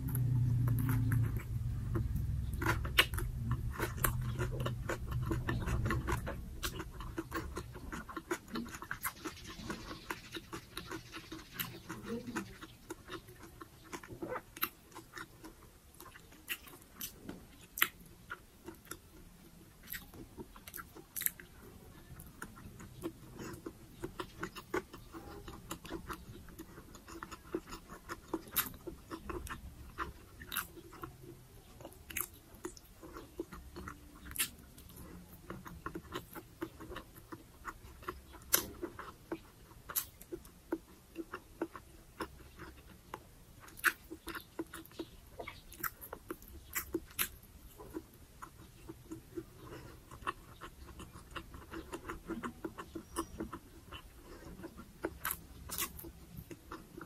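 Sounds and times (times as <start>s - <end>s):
wet chewing with clicks: 0.0s - 57.0s.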